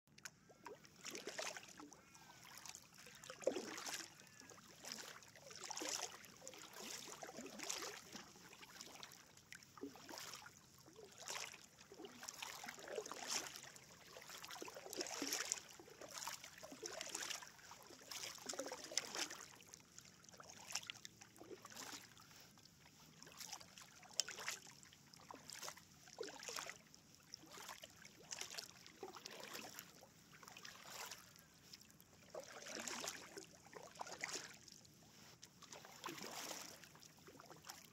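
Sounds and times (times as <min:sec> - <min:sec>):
kayak paddle splashing water: 0:00.1 - 0:37.9.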